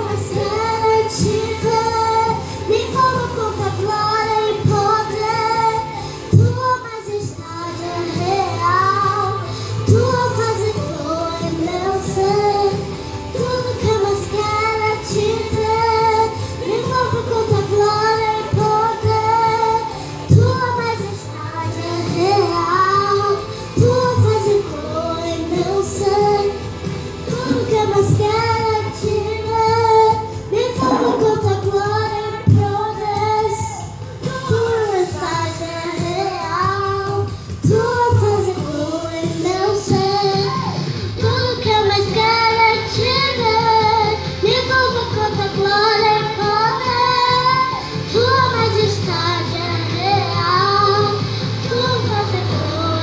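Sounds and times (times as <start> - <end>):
backing track with steady beat: 0.0 - 53.0
girl singing into a microphone: 0.0 - 53.0.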